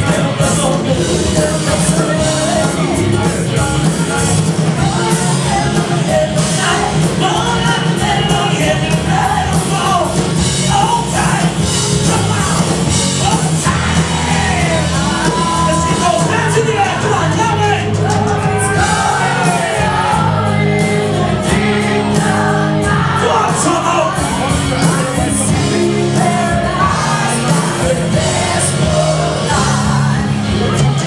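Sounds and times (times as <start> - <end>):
bass guitar: 0.0 - 31.0
drums: 0.0 - 31.0
electric guitars: 0.0 - 31.0
person singing: 0.0 - 31.0.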